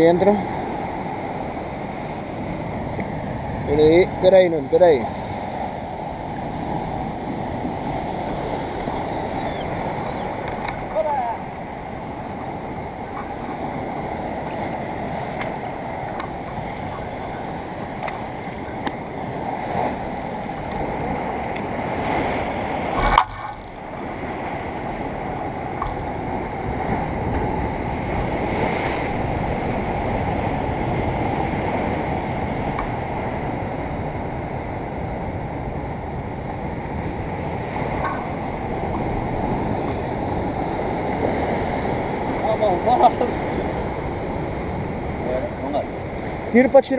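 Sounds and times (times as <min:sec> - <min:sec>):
surf breaking against rocks: 0:00.0 - 0:46.9.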